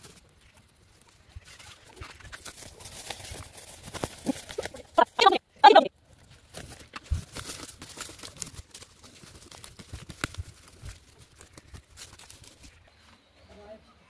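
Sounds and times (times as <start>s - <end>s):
leaves and stems rustling: 0.0s - 13.6s.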